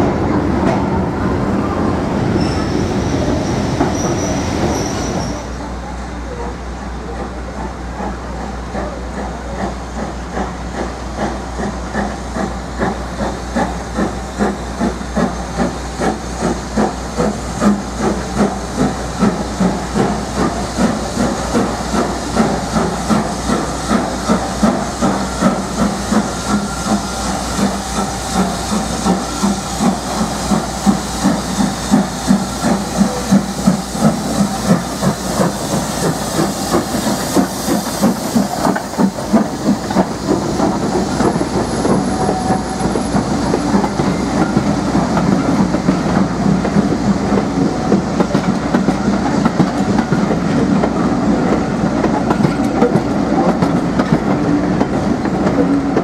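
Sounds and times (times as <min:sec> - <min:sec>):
steady steam hiss: 0:01.3 - 0:56.0
steam locomotive exhaust chuffs: 0:01.7 - 0:56.0.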